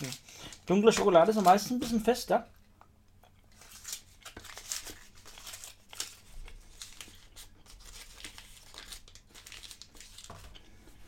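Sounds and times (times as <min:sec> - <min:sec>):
wrapper crinkling: 0:00.0 - 0:02.3, 0:03.5 - 0:10.6.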